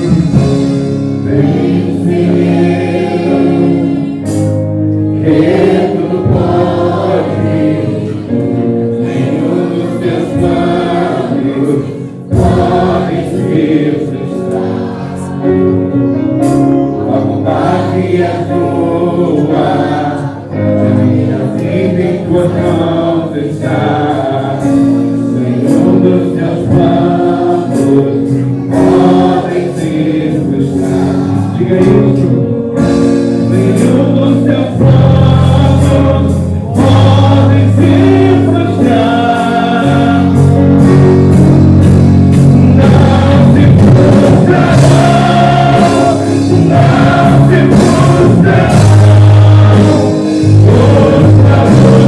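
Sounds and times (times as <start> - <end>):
group singing a hymn: 0.0 - 52.0
live band playing: 0.0 - 52.0.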